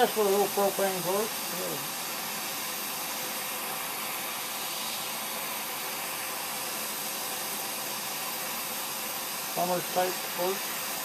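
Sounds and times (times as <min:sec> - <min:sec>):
propane torch hissing: 0:00.0 - 0:11.0.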